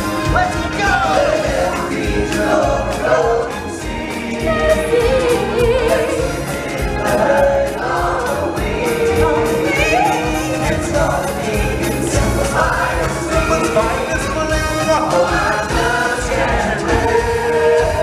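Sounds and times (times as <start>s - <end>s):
band playing a steady beat: 0.0s - 18.0s
group of singers: 0.0s - 18.0s.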